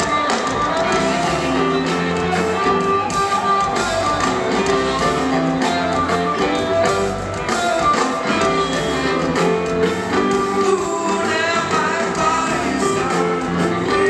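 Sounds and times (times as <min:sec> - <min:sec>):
live rock band: 0:00.0 - 0:14.0.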